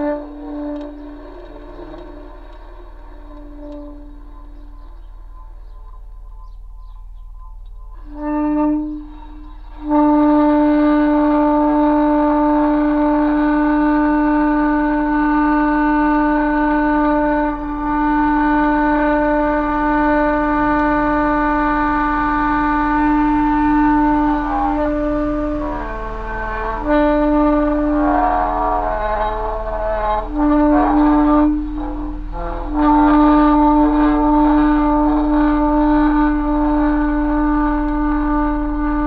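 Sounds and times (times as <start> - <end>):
horn-like blown note: 0.0 - 39.0.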